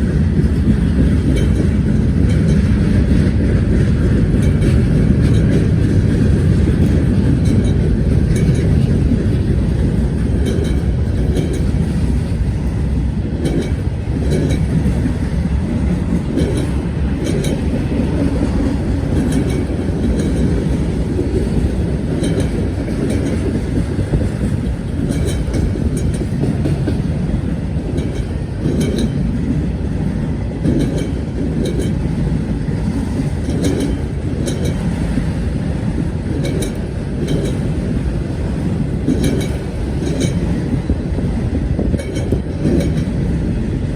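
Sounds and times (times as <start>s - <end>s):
freight train rumbling past: 0.0s - 43.9s
train wheels clicking over rail joints: 0.0s - 43.9s.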